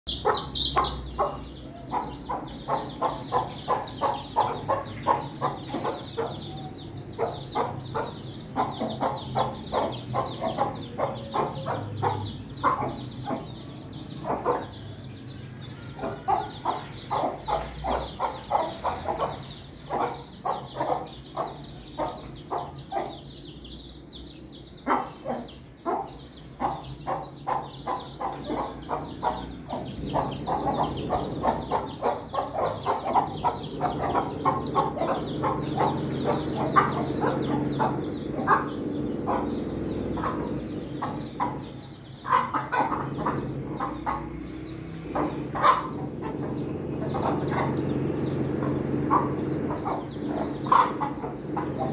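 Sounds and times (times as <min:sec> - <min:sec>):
chicks peeping: 0:00.0 - 0:51.9
hens clucking: 0:00.0 - 0:51.9.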